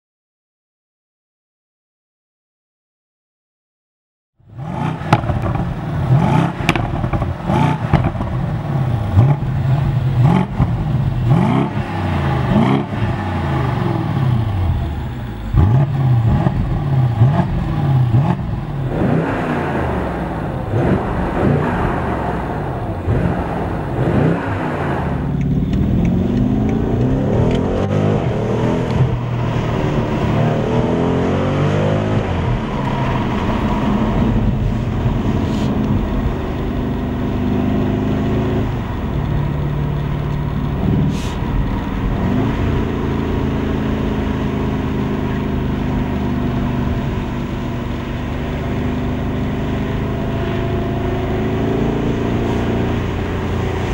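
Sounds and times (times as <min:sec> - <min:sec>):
car engine revving: 0:04.4 - 0:53.9
exhaust crackles: 0:04.5 - 0:53.9.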